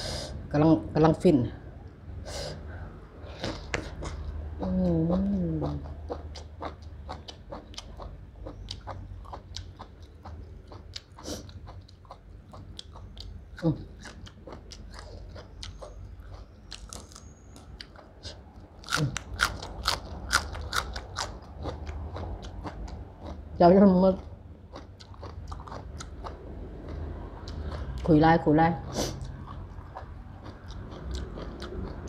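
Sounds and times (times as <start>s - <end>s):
close-up chewing and crunching: 3.3s - 32.0s.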